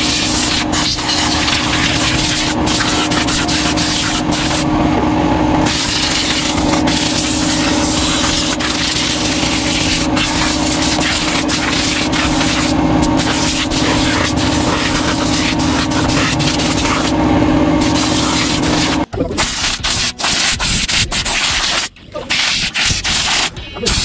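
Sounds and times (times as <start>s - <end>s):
compressed air hissing: 0.0s - 4.8s, 5.4s - 24.0s
air compressor motor hum: 0.0s - 24.0s.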